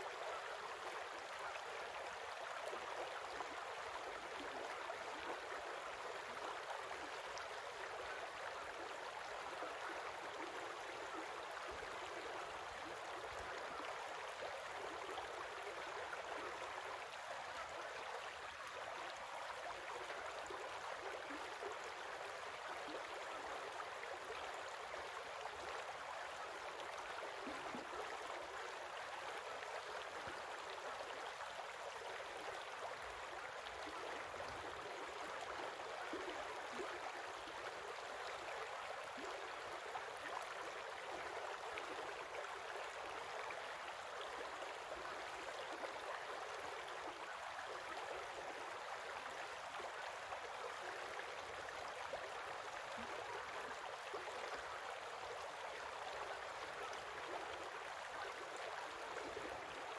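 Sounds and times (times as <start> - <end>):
creek water flowing over stones: 0.0 - 59.9.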